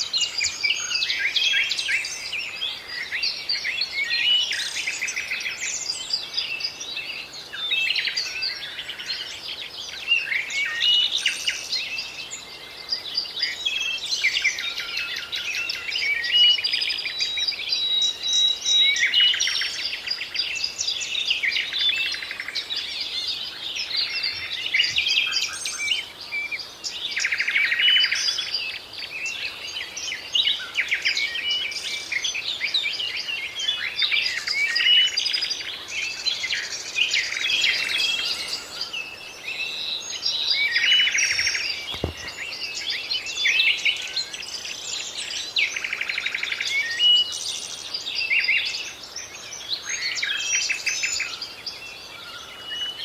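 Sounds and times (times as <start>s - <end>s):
birds singing and chirping: 0.0s - 53.0s.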